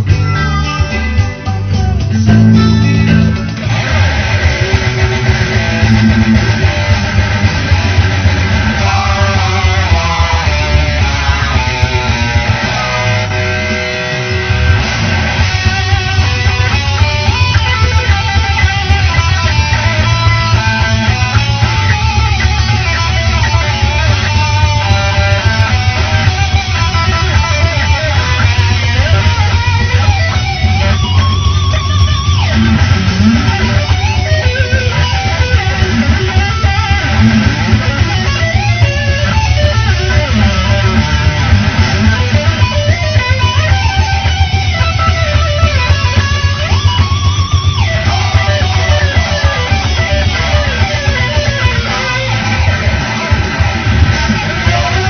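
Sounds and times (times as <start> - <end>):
rock band music: 0.0 - 55.0
steady bass: 0.0 - 55.0
strummed and electric guitars: 0.0 - 55.0.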